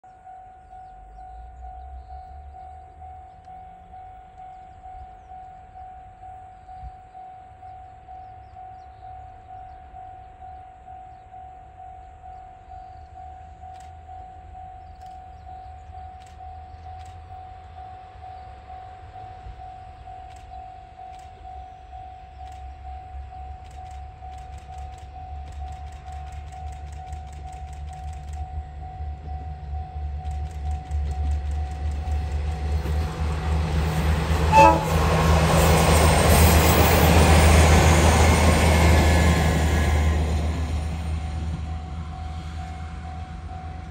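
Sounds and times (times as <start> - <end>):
diesel train engine rumble: 0.0 - 43.9.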